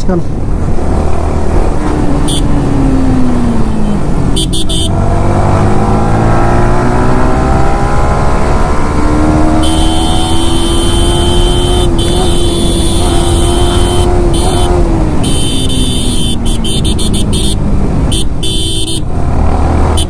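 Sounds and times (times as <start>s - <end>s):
wind and road rumble: 0.0s - 20.0s
motorcycle engine: 0.3s - 20.0s.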